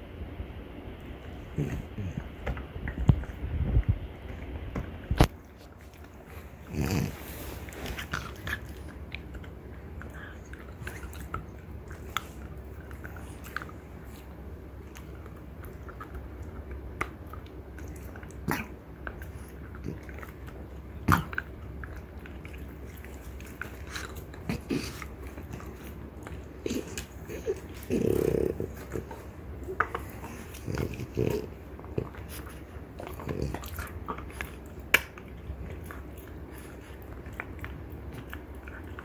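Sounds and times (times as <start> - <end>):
dogs gnawing on antlers: 1.5 - 39.0.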